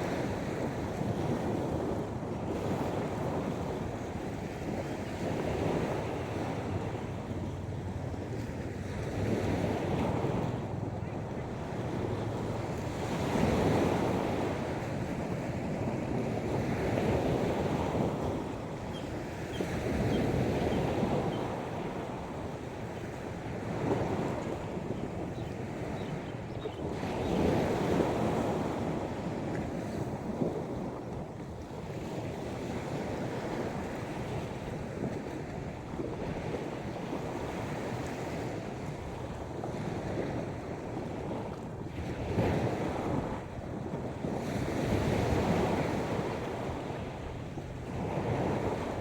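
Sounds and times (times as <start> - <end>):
sea waves washing on beach: 0.0 - 49.0
wind buffeting microphone: 0.0 - 49.0.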